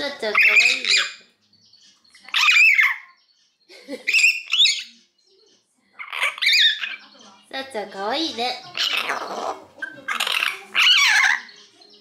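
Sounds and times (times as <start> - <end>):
myna bird calls: 0.0 - 5.2, 6.0 - 12.0.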